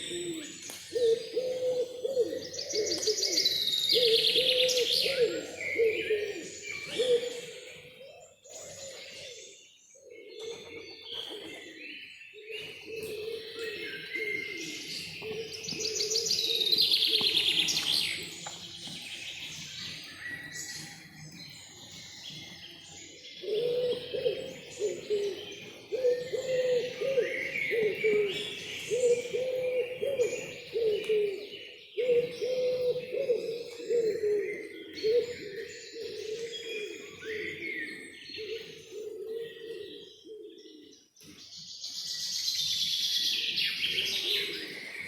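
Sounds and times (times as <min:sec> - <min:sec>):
birds chirping and trilling: 0:00.0 - 0:45.0.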